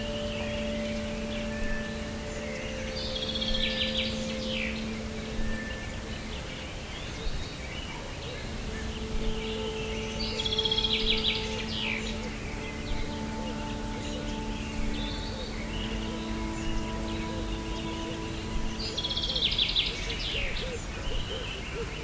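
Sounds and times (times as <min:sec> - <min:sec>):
forest ambience noise: 0:00.0 - 0:22.0
songbirds trilling: 0:00.0 - 0:22.0.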